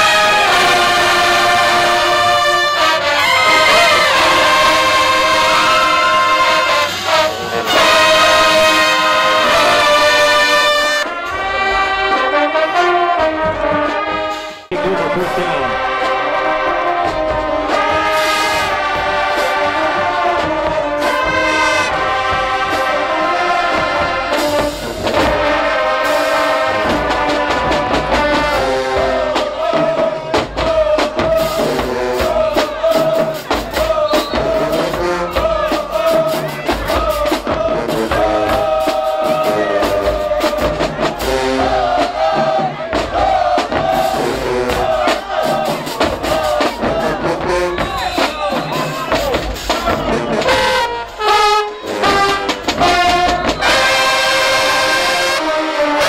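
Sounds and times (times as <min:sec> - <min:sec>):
brass chords: 0:00.0 - 0:56.0.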